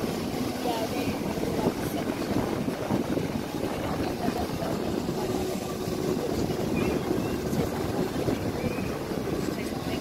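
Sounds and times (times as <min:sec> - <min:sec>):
ocean surf breaking: 0:00.0 - 0:10.0
wind buffeting microphone: 0:00.0 - 0:10.0.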